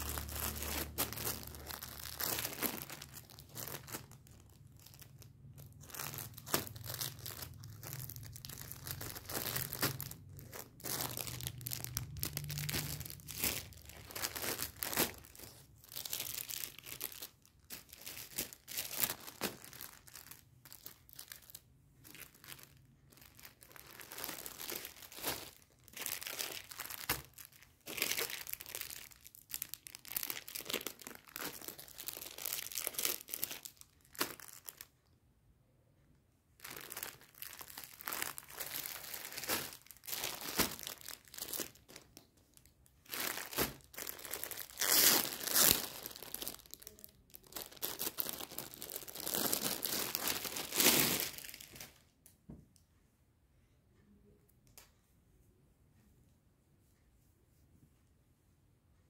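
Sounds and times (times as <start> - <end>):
plastic packaging crinkling: 0.0 - 34.9, 36.6 - 52.0.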